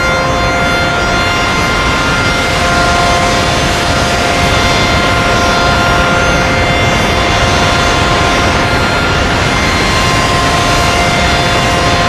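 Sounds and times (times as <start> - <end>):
air dryer blowers rushing: 0.0 - 12.0.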